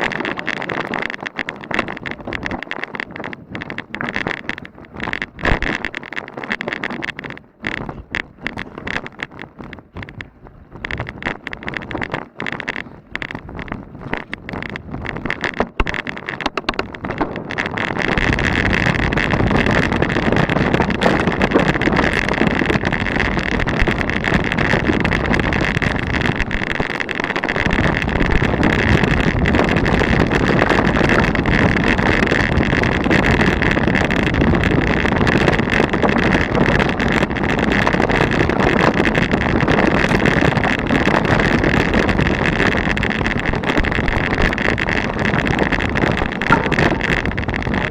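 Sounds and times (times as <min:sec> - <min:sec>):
bike chatter on rocks: 0:00.0 - 0:47.9
bike knocks and rattles: 0:00.0 - 0:47.9
wind on microphone: 0:00.0 - 0:47.9.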